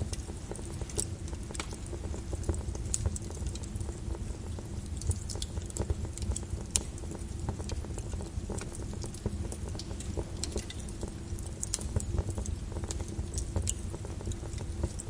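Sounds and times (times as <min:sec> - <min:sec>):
lava crackling and popping: 0:00.0 - 0:15.0.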